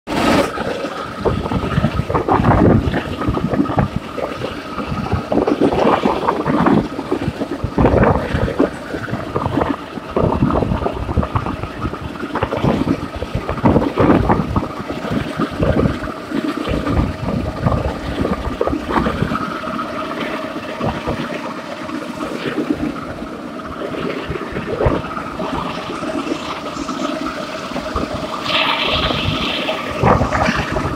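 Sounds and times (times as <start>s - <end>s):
steel wheels rolling on rails: 0.1s - 30.9s.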